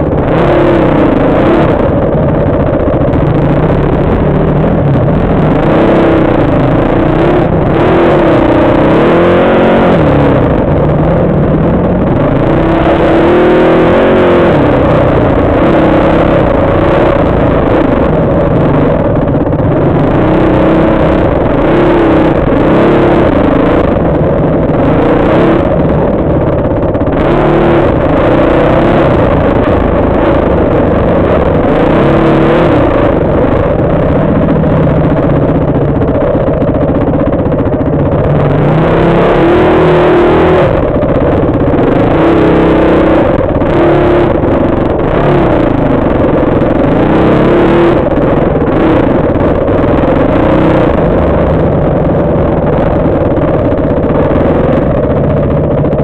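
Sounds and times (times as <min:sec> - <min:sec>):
dirt bike engine revving: 0:00.0 - 0:54.8.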